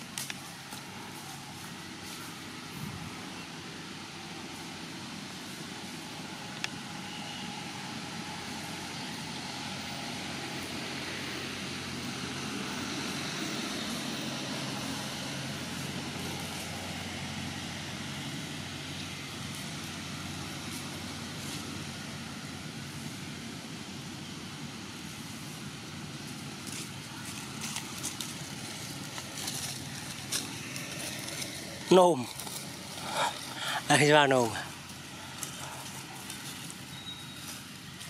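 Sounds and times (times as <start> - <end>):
distant engine rumble: 0.0 - 38.0.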